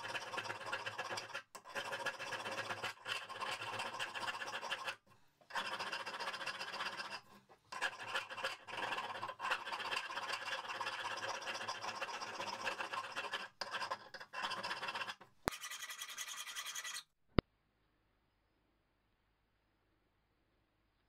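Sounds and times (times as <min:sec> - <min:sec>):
file scraping metal: 0:00.0 - 0:17.1.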